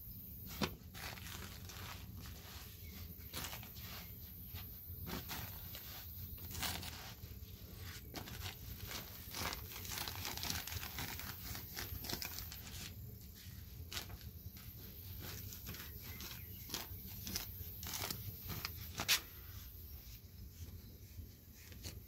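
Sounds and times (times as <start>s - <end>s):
pastry dough rustling and clicking: 0.4s - 19.4s.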